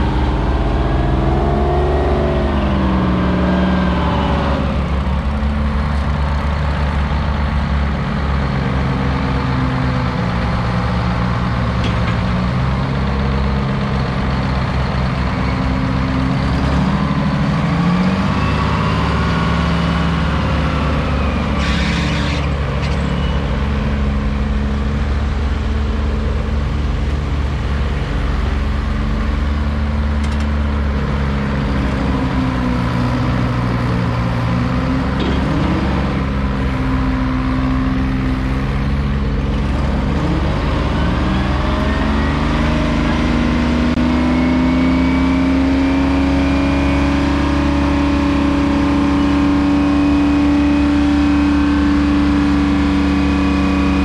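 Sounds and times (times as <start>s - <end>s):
truck diesel engine revving: 0.0s - 54.0s.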